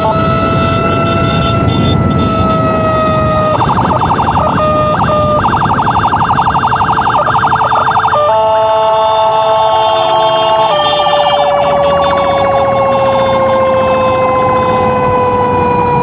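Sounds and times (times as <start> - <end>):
electronic emergency siren: 0.0 - 16.0
motorcycle engine: 0.0 - 16.0
wind noise: 0.0 - 16.0.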